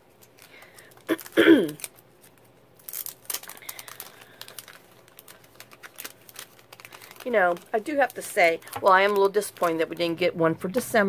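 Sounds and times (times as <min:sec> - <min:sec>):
cellophane packet crinkling: 0:00.0 - 0:11.0
paper rustling: 0:00.1 - 0:10.2.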